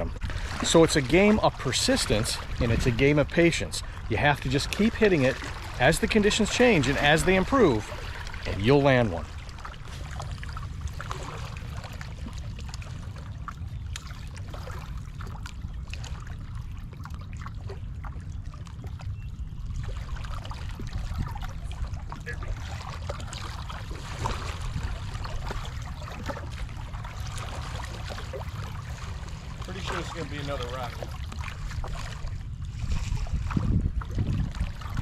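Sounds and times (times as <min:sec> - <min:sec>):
small waves lapping against rocks: 0:00.0 - 0:19.1, 0:19.7 - 0:35.0
steady low rumble: 0:00.0 - 0:35.0.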